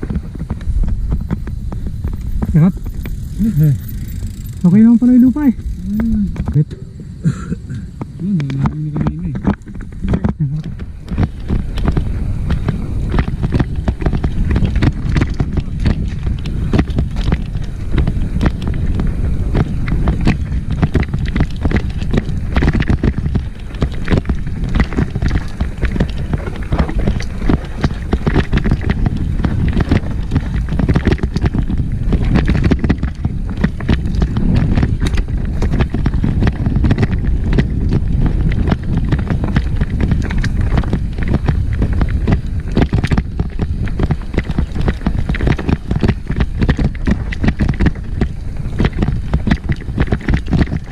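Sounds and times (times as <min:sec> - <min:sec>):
bike rattling over rocks: 0:00.0 - 0:06.7, 0:07.5 - 0:50.9
wind rush on microphone: 0:00.0 - 0:50.9.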